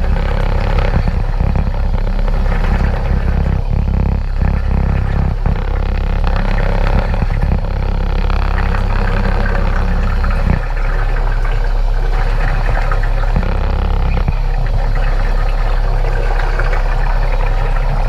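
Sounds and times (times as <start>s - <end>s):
air bubbles crackling: 0.0s - 18.0s
submarine motor and propeller rumble: 0.0s - 18.0s.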